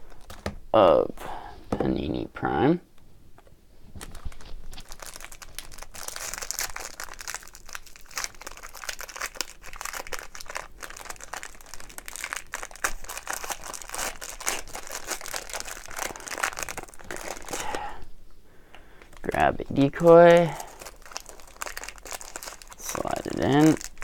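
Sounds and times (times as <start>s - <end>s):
card pack wrapper crinkling: 0.0s - 0.6s, 3.9s - 18.0s, 19.0s - 24.0s.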